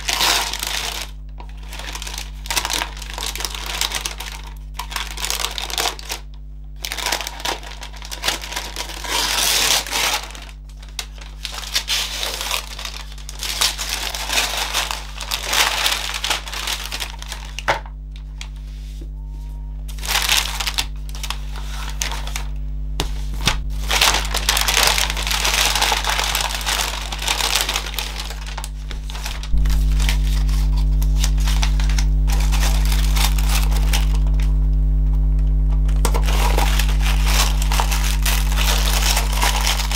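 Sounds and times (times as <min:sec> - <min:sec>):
tissue paper crinkling: 0:00.0 - 0:34.5, 0:35.9 - 0:39.9
steady low hum: 0:00.0 - 0:39.9.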